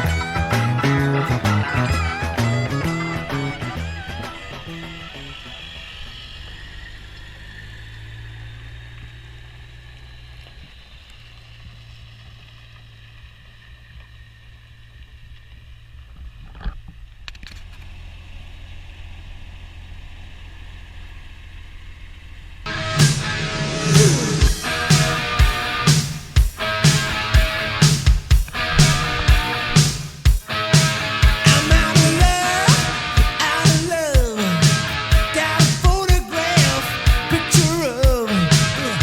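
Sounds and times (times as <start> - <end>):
vehicle engine running: 0.0 - 35.8.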